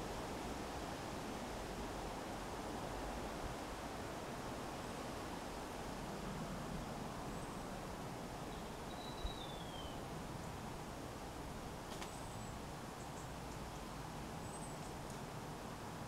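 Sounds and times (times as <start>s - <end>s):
wind rustling leaves: 0.0s - 16.0s.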